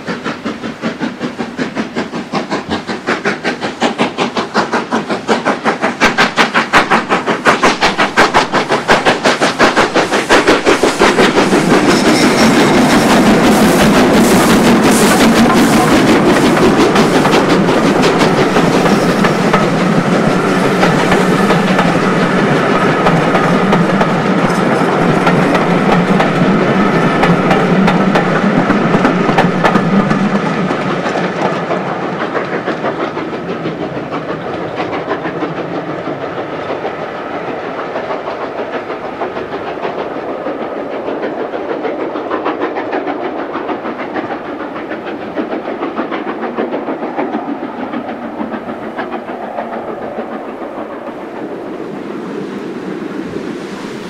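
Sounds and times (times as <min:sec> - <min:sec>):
steam locomotive exhaust beats: 0:00.0 - 0:54.0
train wheels clattering on rails: 0:00.0 - 0:54.0.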